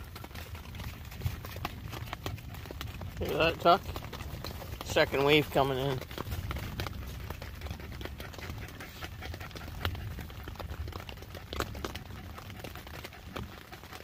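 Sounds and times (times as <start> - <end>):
rain pattering on tent: 0.0 - 14.0.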